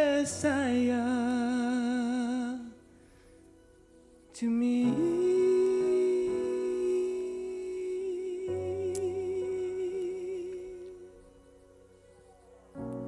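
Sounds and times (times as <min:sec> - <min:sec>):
soft instrumental chords: 0:00.0 - 0:13.0.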